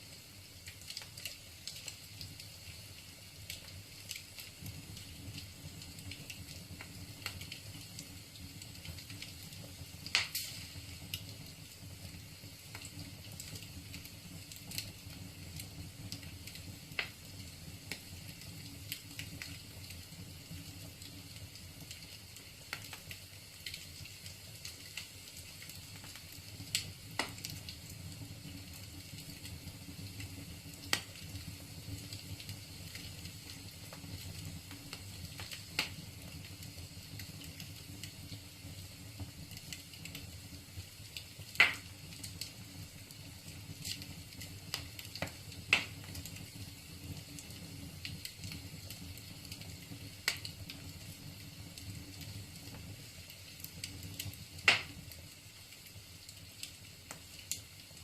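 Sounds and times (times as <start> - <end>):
wood fire crackling: 0.0 - 58.0
burning logs popping: 0.1 - 58.0.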